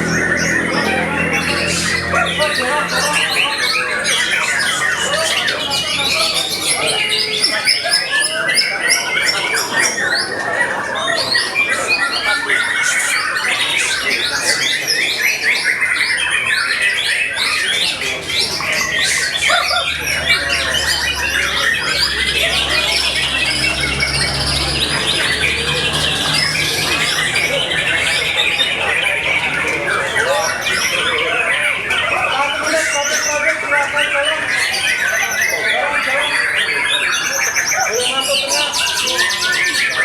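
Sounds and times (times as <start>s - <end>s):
songbirds whistling and chattering: 0.0s - 40.0s.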